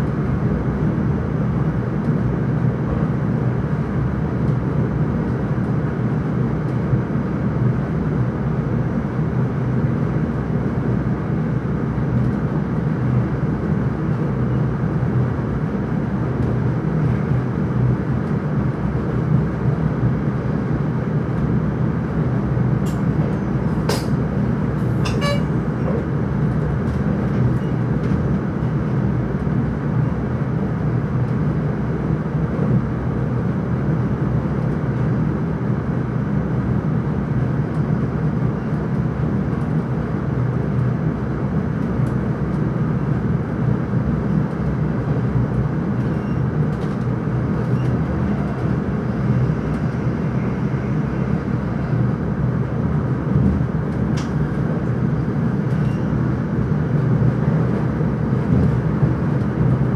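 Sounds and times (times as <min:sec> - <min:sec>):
train wheels and motors running: 0:00.0 - 0:59.9.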